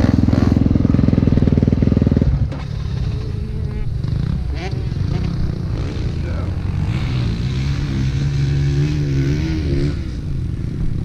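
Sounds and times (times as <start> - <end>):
motorbike engines idling: 0.0 - 11.0.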